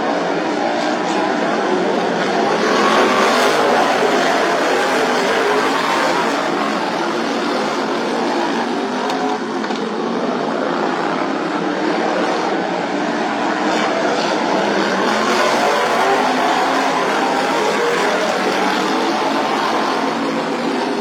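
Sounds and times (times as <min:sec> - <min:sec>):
lawn mower engines at high revs: 0:01.6 - 0:11.3, 0:13.4 - 0:21.0.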